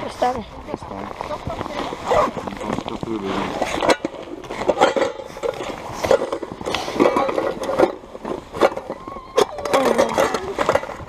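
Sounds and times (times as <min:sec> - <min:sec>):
rustling and scraping: 0:00.0 - 0:11.0.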